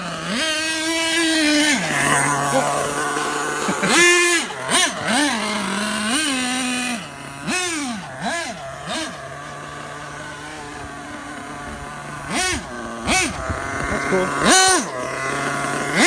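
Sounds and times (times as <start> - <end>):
model car engine idling: 0.0 - 16.0
model car engine revving: 0.0 - 16.0.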